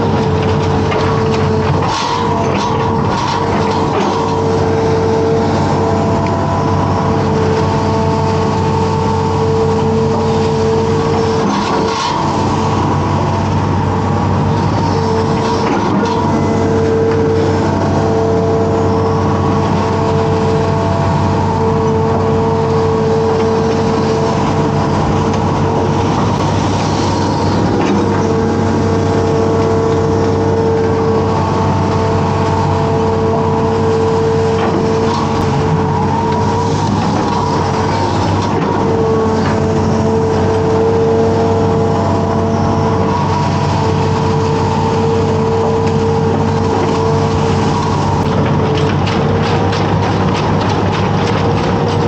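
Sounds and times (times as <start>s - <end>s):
excavator diesel engine and hydraulics: 0.0s - 52.0s
hydraulic whine: 0.0s - 52.0s.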